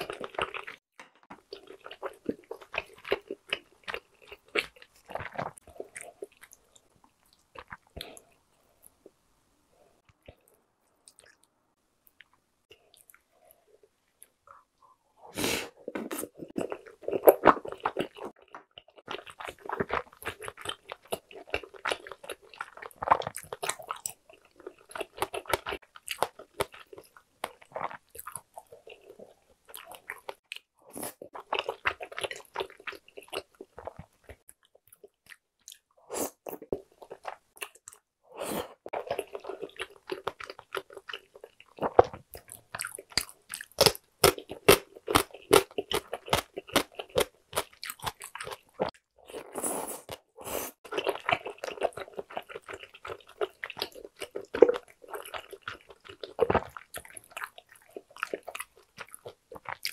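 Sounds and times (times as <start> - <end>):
person chewing food: 0.0 - 9.2, 10.0 - 59.9.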